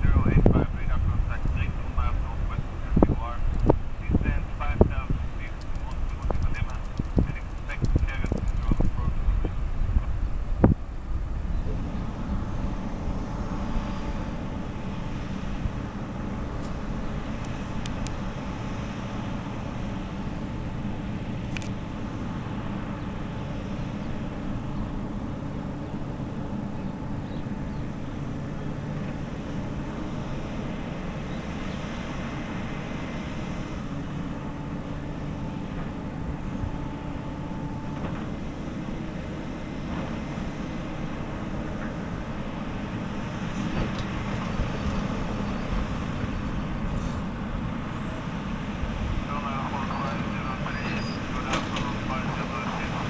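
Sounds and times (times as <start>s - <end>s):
distant jet engines rumbling: 0.0s - 53.0s.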